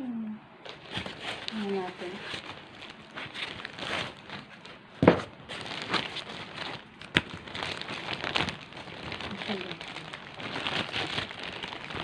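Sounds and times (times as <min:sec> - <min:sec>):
packaging crinkling and rustling: 0:00.6 - 0:12.0.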